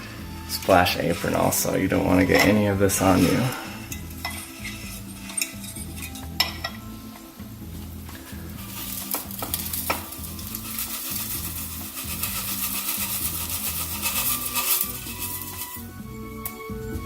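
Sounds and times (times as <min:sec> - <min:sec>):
hissing sizzle of dissolving flakes: 0:00.0 - 0:16.7.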